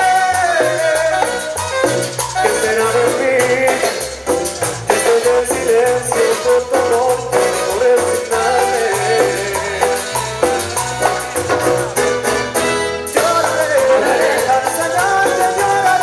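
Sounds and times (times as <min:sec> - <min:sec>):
bass: 0:00.0 - 0:16.0
congas: 0:00.0 - 0:16.0
latin dance orchestra: 0:00.0 - 0:16.0.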